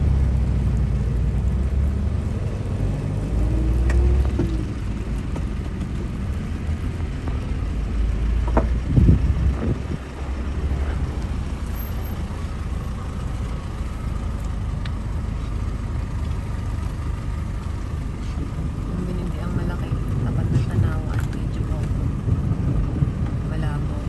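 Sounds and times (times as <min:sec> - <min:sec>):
motor vehicles rumbling: 0:00.0 - 0:24.0.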